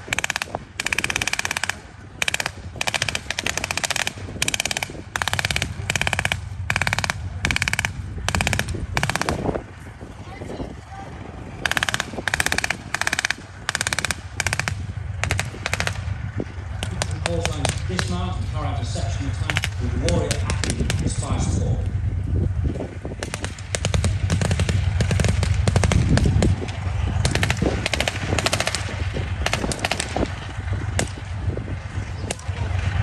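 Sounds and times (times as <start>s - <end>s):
machine guns firing in bursts: 0.0s - 10.2s, 11.1s - 21.6s, 23.1s - 33.0s.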